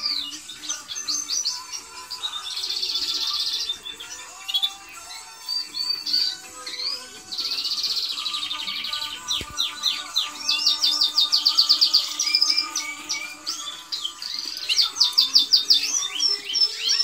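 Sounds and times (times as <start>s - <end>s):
canaries singing: 0.0s - 17.0s.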